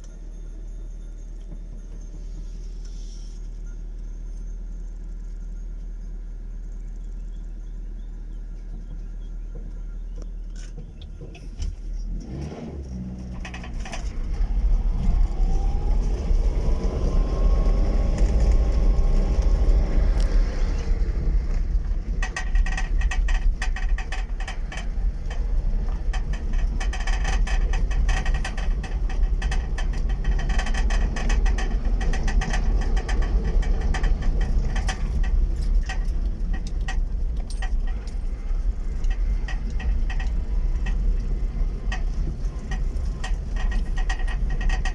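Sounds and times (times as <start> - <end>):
car engine running: 0.0 - 44.9
rapid clatter from car: 8.6 - 44.9.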